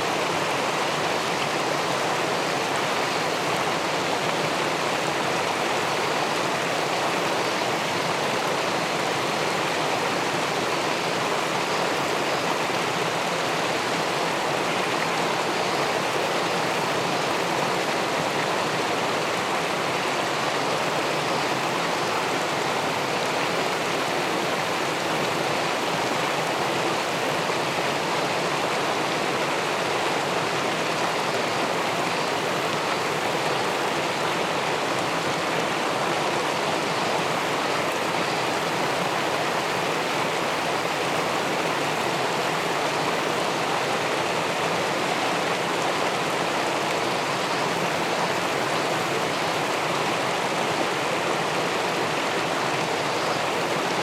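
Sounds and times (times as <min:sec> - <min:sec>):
river water over a weir: 0:00.0 - 0:54.0.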